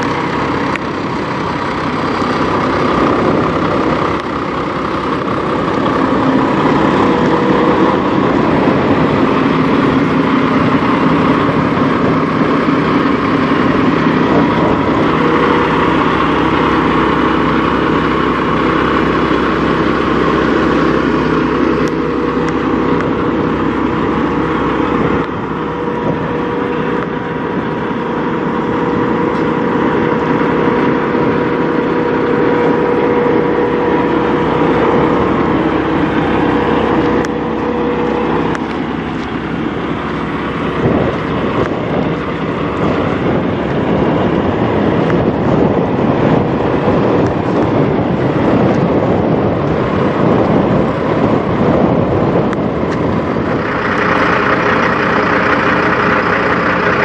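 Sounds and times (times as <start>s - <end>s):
constant whine: 0.0s - 57.0s
diesel truck engine idling: 0.0s - 57.0s.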